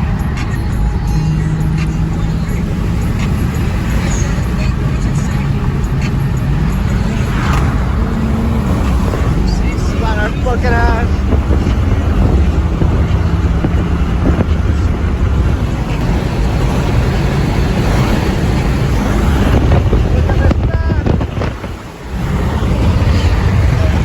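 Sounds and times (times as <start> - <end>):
car engine at speed: 0.0 - 24.0
wind buffeting microphone: 0.0 - 24.0.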